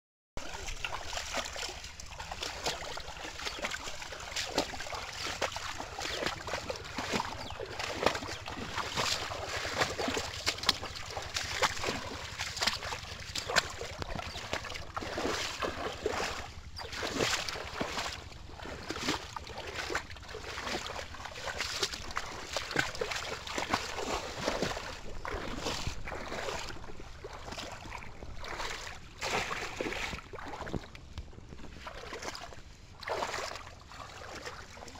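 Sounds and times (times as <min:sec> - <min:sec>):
water sloshing around wading legs: 0:00.4 - 0:34.9.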